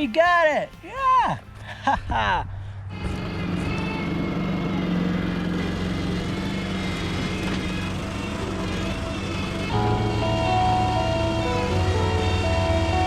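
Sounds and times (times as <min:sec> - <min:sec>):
backhoe engine running: 0:01.4 - 0:13.0.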